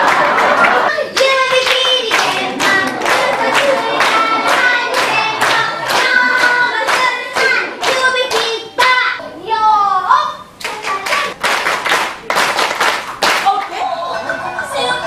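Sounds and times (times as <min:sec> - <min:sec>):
hand claps: 0:00.0 - 0:09.0, 0:10.6 - 0:13.8.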